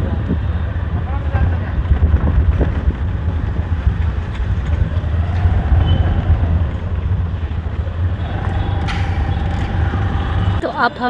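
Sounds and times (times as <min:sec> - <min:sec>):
wind on microphone: 0:00.0 - 0:10.6
motor scooter road noise: 0:00.0 - 0:11.0.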